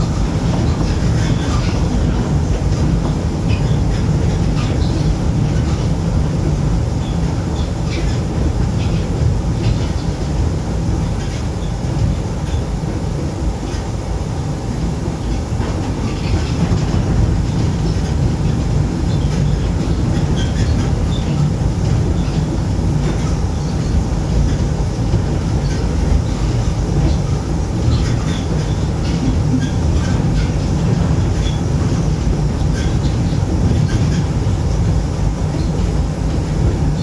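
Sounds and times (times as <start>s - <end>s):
monorail train rumble: 0.0s - 37.0s.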